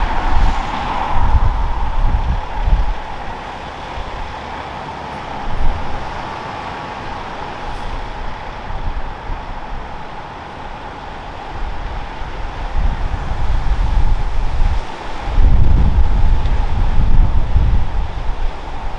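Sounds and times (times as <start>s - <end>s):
jet engine rush and whine: 0.0s - 18.9s
wind buffeting microphone: 0.0s - 18.9s.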